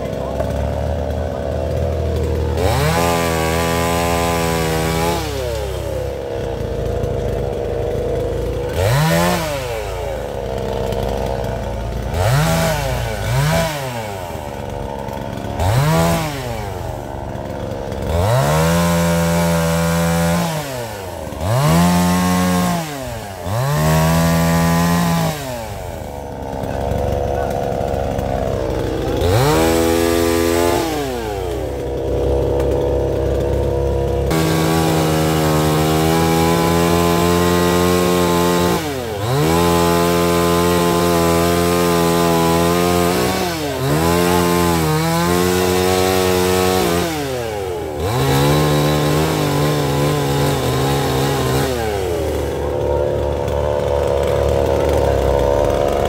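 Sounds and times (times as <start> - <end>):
chainsaw revving and cutting: 0.0 - 56.0.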